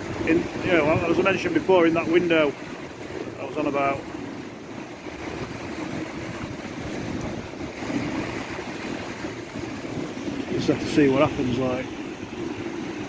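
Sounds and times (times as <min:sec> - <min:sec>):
sea swell washing against rocks: 0:00.0 - 0:13.0
wind buffeting microphone: 0:00.0 - 0:13.0.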